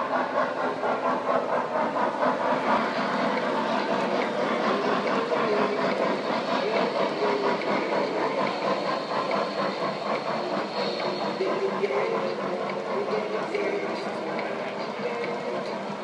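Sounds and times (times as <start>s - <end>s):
model train motor rumbling: 0.0s - 16.0s.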